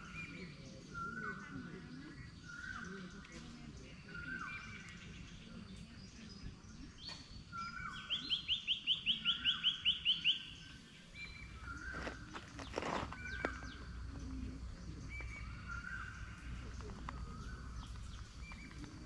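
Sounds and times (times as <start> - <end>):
forest birds singing: 0.0 - 19.0.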